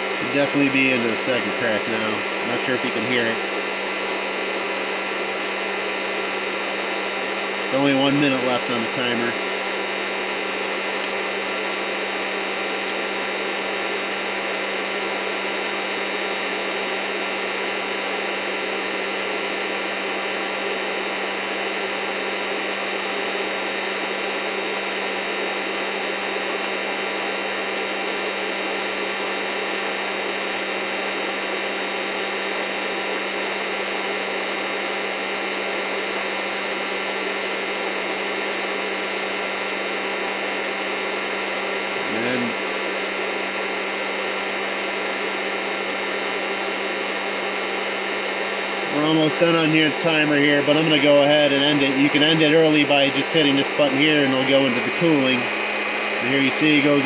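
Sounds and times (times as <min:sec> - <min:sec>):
roaster fan whirring: 0:00.0 - 0:57.0.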